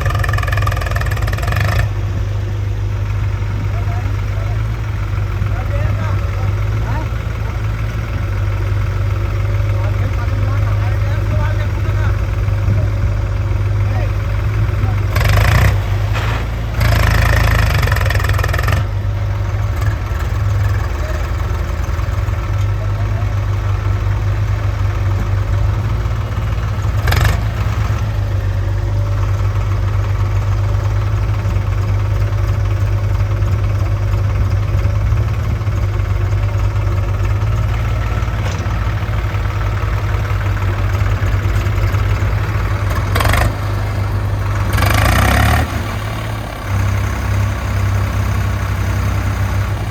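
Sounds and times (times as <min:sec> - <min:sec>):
bursts of engine clatter: 0:00.0 - 0:49.9
heavy diesel engine running: 0:00.0 - 0:49.9.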